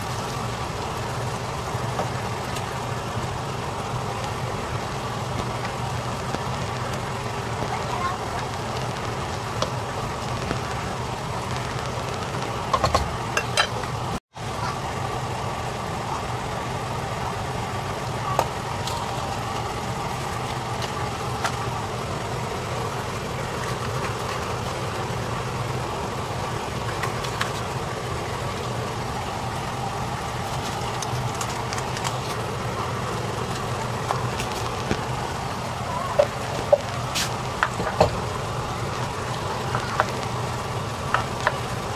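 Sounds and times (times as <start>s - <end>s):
low kitchen hum: 0.0s - 41.9s.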